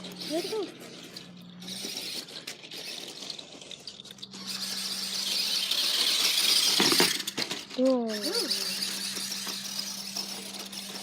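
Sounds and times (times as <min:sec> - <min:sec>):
toy car motor whirring: 0:00.0 - 0:11.0.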